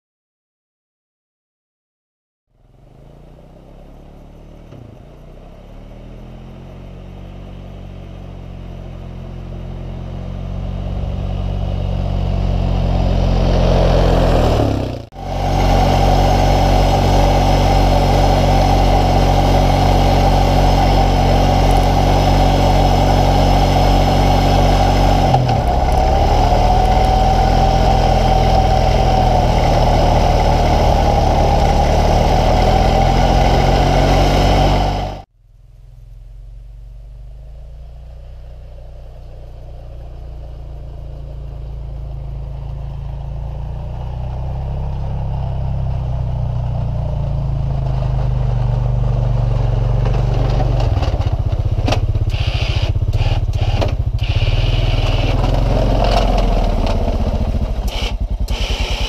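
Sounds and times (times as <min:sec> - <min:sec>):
plow vehicle engine running: 0:02.6 - 0:59.0.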